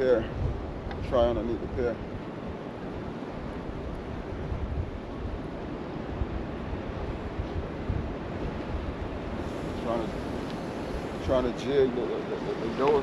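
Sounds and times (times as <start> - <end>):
ocean surf: 0.0 - 13.0
wind gusting on microphone: 0.0 - 13.0.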